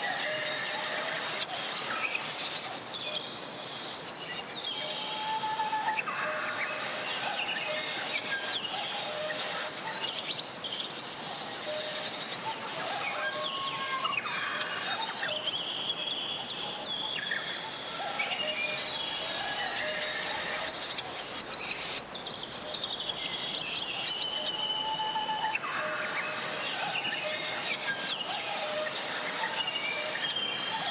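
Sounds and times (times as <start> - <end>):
birds chirping and singing: 0.0 - 30.9.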